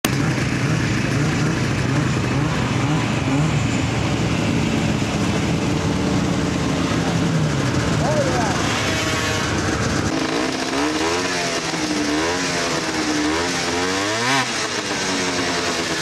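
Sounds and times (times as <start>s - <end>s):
snowmobile engines droning: 0.0s - 16.0s
constant rushing noise: 0.1s - 16.0s.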